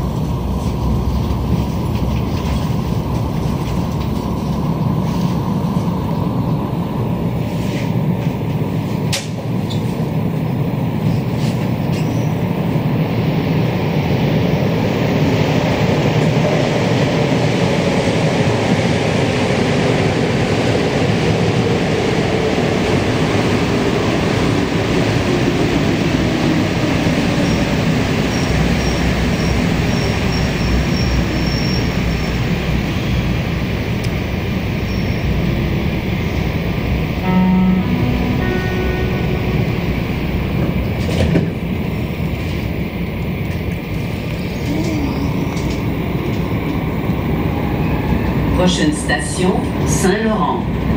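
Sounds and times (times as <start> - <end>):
metro train rumble and hiss: 0.0 - 50.9.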